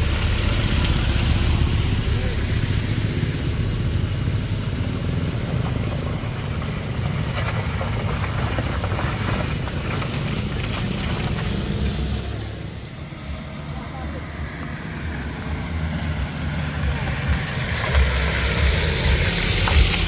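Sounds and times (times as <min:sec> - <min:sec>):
gritty rattling noise: 0:00.0 - 0:20.0
heavy vehicle engine rumbling: 0:00.0 - 0:20.0.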